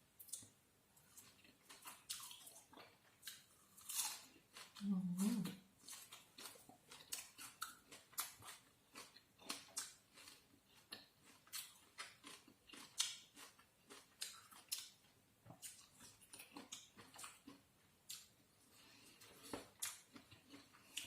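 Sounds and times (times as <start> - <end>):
chewing and crunching food: 0.2 - 21.0.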